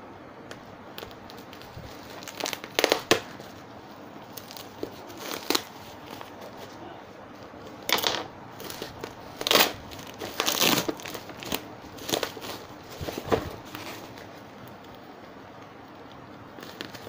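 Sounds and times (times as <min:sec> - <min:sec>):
bubble wrap crinkling: 0:00.4 - 0:17.0.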